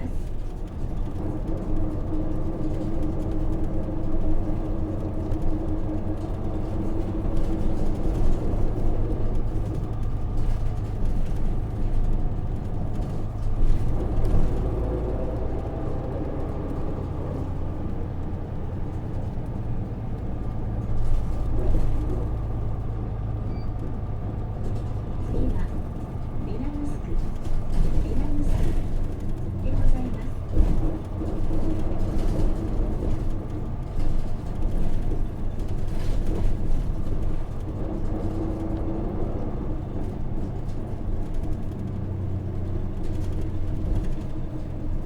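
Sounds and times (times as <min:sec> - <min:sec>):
bus diesel engine running: 0:00.0 - 0:45.0
road and tyre noise: 0:00.0 - 0:45.0.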